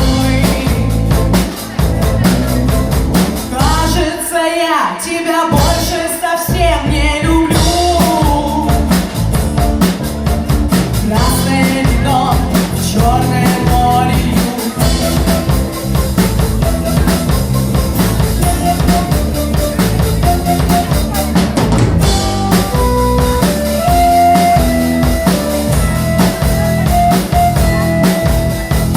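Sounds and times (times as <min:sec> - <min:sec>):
drum kit steady beat: 0:00.0 - 0:04.4, 0:05.5 - 0:28.9
rock band playing live: 0:00.0 - 0:28.9.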